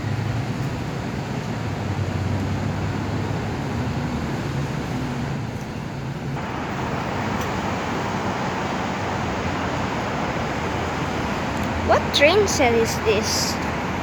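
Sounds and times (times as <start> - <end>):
passing vehicles rushing: 0.0 - 14.0
vehicle engine hum: 0.0 - 14.0.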